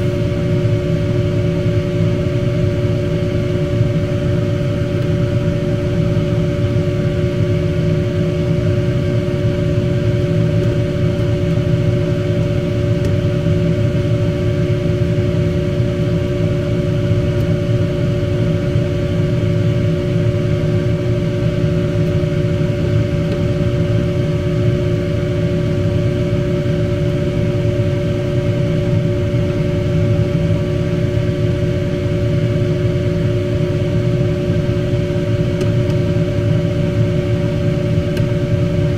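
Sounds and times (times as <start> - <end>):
machine hum: 0.0 - 38.9.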